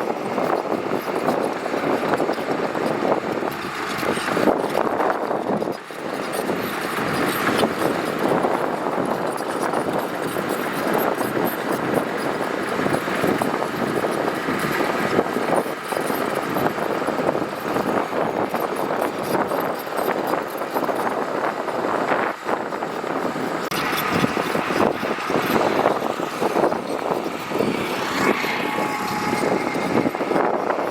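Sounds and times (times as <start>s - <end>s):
earthmoving machinery running: 0.0s - 30.9s.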